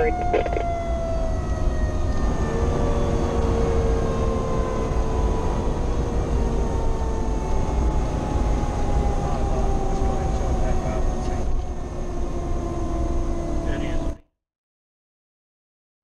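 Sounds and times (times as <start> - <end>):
siren winding down: 0.0 - 14.2
truck engine rumble: 0.0 - 14.2.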